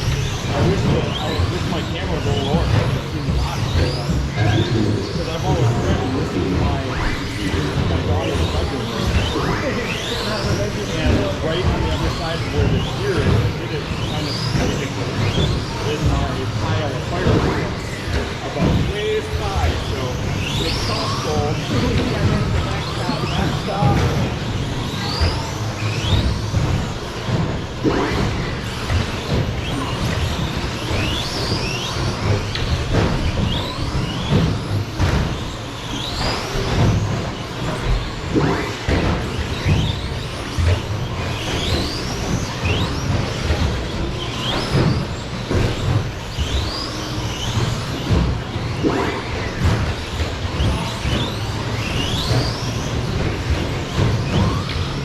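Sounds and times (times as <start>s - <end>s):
electric toy truck motors whining: 0.0s - 55.0s.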